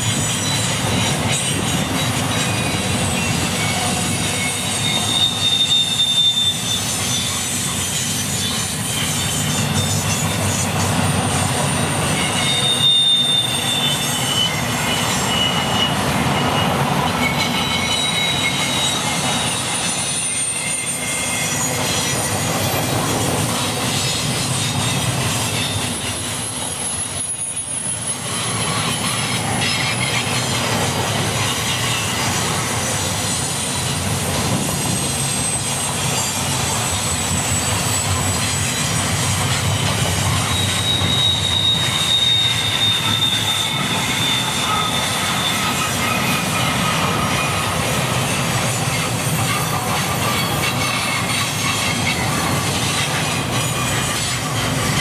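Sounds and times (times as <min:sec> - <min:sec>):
high-pitched wheel squeal: 0:00.0 - 0:55.0
steel train wheels rumbling on rail: 0:00.0 - 0:55.0.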